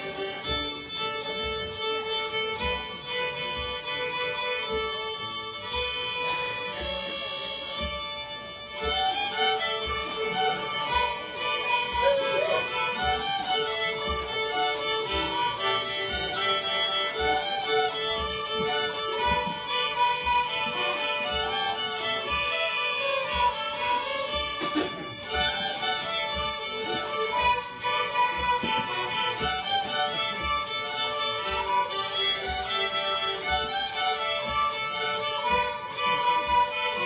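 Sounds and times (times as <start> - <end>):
fiddles playing a tune: 0.0 - 37.0
low thumping beat: 0.0 - 37.0.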